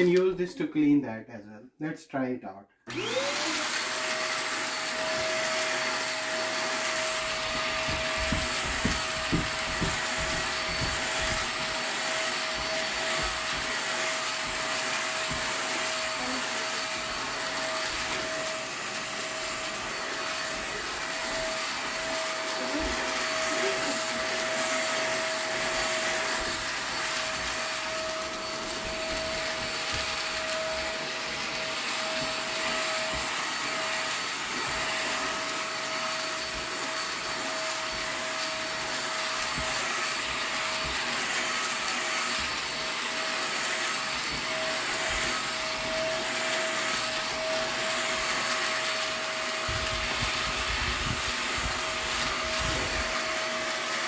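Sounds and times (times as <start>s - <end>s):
vacuum cleaner running: 2.9s - 54.0s.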